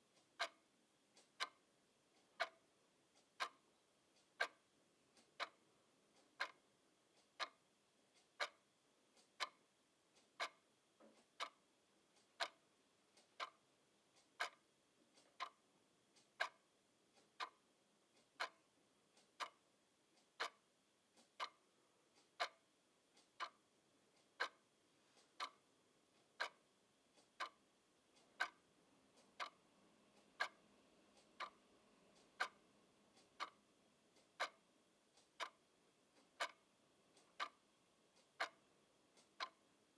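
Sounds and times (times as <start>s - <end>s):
clock ticking: 0.1s - 8.6s, 9.2s - 9.6s, 10.4s - 10.6s, 11.3s - 19.6s, 20.2s - 39.9s.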